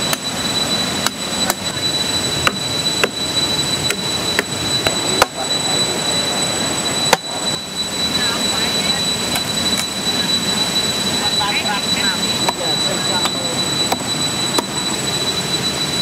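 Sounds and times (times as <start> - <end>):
thin steady high tone: 0.0 - 16.0.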